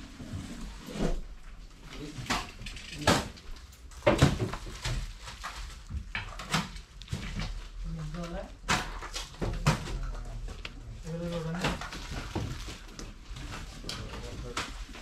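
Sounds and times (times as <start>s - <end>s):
plastic packaging clicks and rustles: 1.8s - 15.0s.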